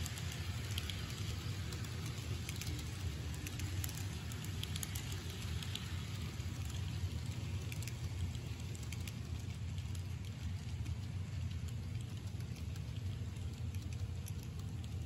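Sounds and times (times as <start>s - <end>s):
faint track clicks: 0.0s - 15.0s.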